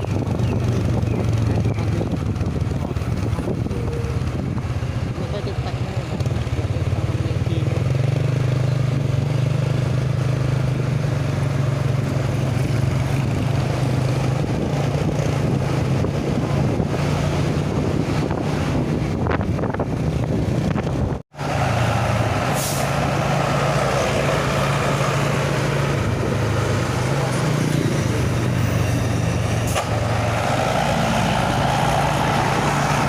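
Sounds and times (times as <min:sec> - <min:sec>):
heavy vehicle engine hum: 0:00.0 - 0:33.0
road noise: 0:00.0 - 0:33.0.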